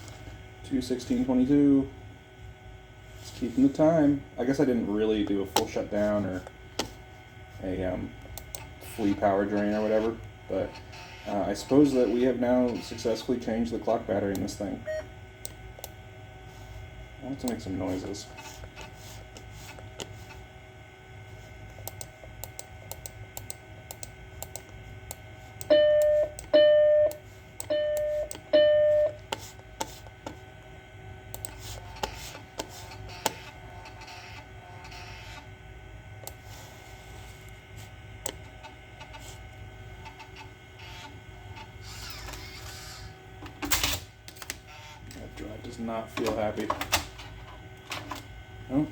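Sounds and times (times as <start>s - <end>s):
computer steady hum: 0.0s - 48.9s.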